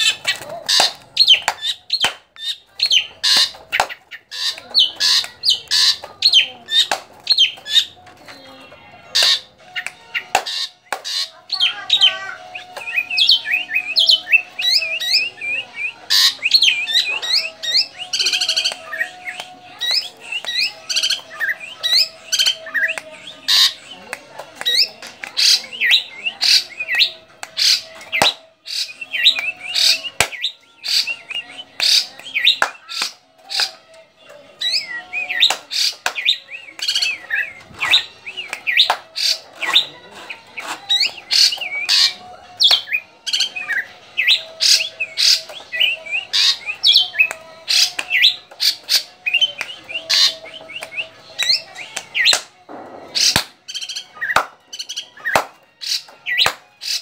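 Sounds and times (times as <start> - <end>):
bird chirping and squawking: 0.0 - 52.4, 53.0 - 57.0.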